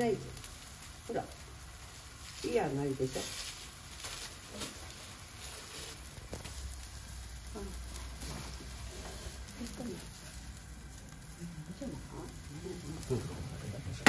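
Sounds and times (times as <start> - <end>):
skewers sizzling on grill: 0.0 - 14.0.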